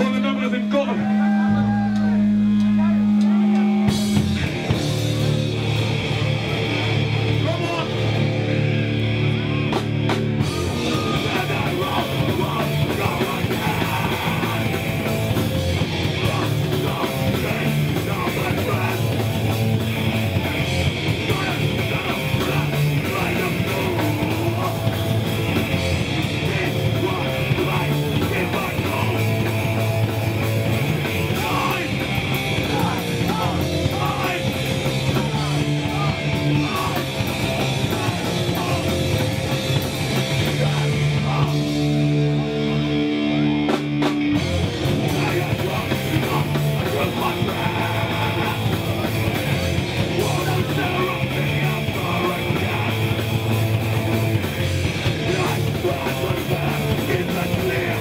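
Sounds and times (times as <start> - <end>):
shouted vocals: 0.0 - 4.8, 5.8 - 43.8, 44.9 - 58.0
punk band playing live: 0.0 - 58.0.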